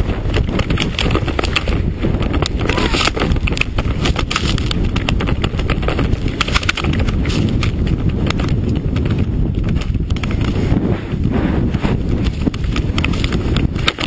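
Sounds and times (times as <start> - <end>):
snowmobile engine rumble: 0.0 - 14.0
wind buffeting: 0.0 - 14.0.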